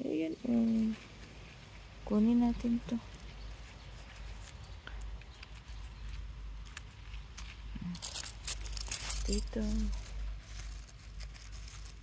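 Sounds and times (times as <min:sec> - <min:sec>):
leaves and stems rustling: 0:00.0 - 0:12.0.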